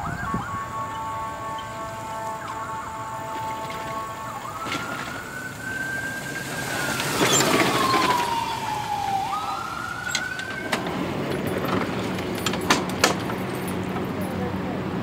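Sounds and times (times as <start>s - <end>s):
electric golf cart motor whining: 0.0s - 15.0s
rushing noise: 0.0s - 15.0s.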